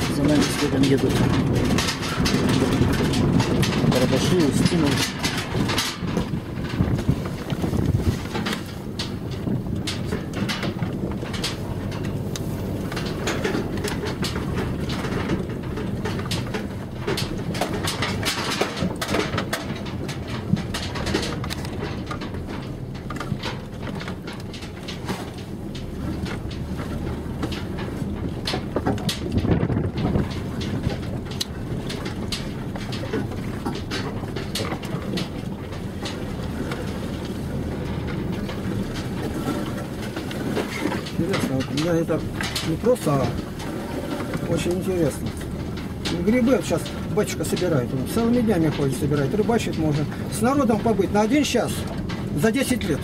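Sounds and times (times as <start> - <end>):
car rattling over bumps: 0.0 - 53.0
engine and tyres rumbling: 0.0 - 53.0.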